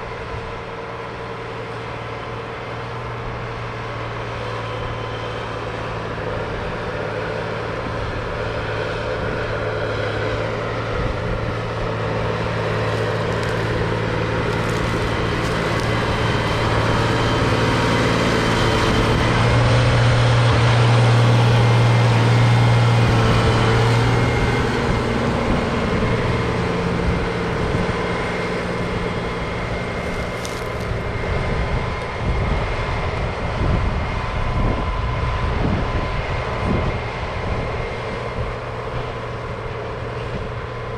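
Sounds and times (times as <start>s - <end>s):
diesel farm machinery engine running: 0.0s - 40.9s.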